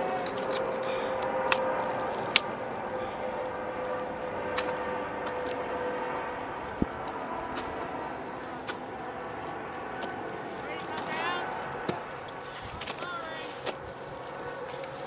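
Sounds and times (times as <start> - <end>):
distant highway traffic hum: 0.0 - 15.0
faint held drone: 0.0 - 15.0.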